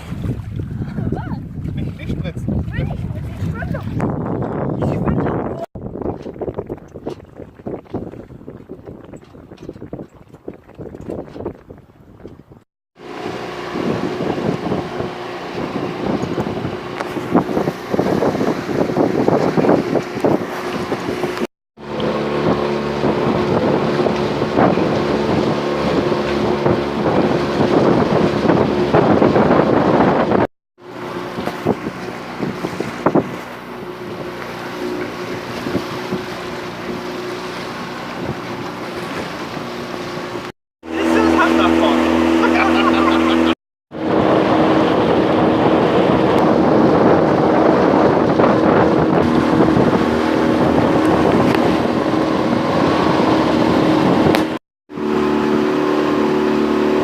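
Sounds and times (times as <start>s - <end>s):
water rushing past: 0.0s - 11.5s, 13.0s - 57.0s
wind buffeting microphone: 0.0s - 57.0s.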